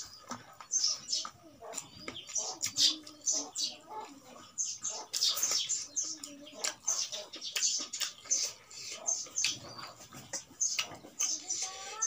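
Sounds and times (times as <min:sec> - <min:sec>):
chewing and lip-smacking: 0:00.2 - 0:12.0.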